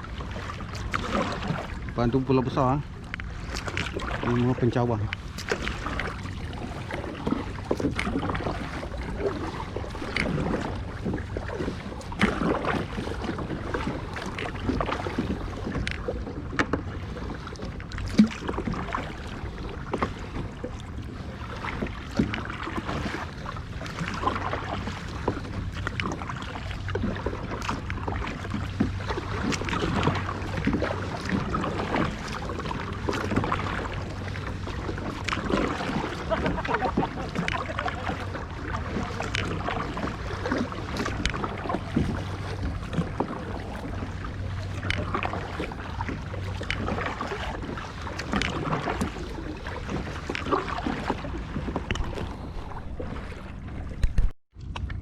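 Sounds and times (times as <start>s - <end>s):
water splashing against hull: 0.0s - 55.0s.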